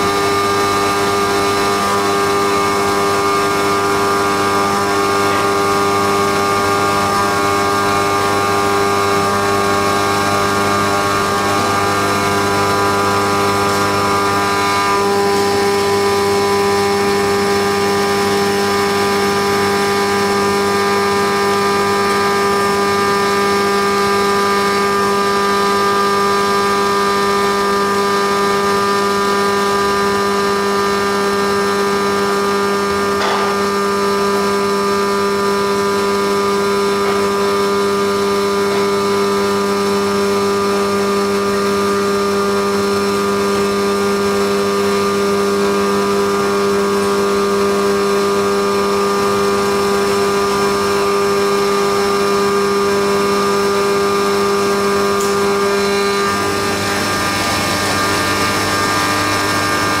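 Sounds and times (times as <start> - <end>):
milling machine whine: 0.0 - 60.0.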